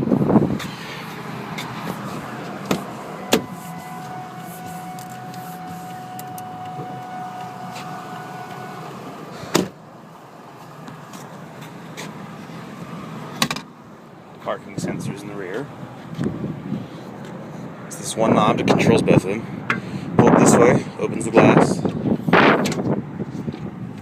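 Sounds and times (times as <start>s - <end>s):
steady whine: 0.0s - 19.3s.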